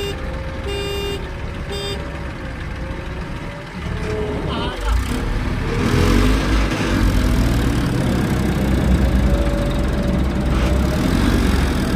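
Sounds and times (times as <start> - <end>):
diesel excavator engine running: 0.0 - 11.9.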